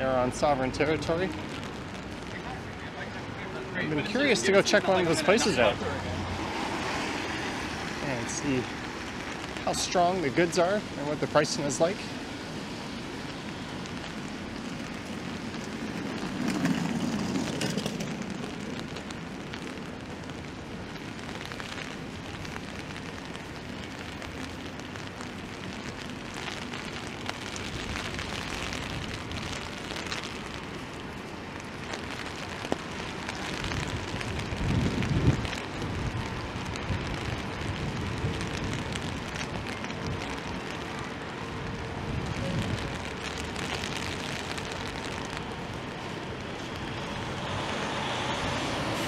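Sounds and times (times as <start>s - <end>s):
rain hissing on street: 0.0s - 49.0s
traffic noise: 0.0s - 49.0s.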